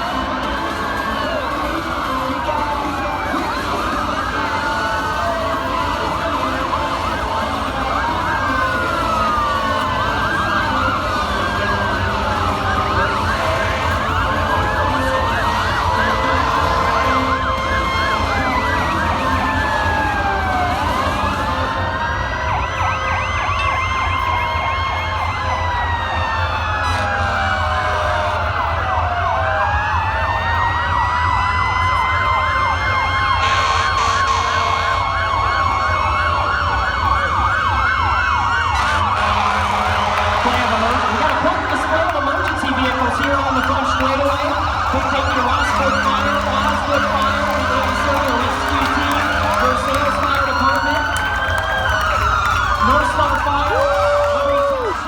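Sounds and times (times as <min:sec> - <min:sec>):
sirens wailing: 0:00.0 - 0:55.0
yelping siren warbles: 0:00.0 - 0:55.0.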